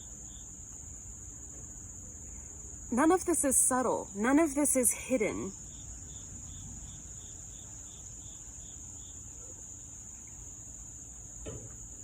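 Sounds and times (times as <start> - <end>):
crickets trilling: 0.0 - 12.0
insect pulsed chirp: 0.0 - 12.0.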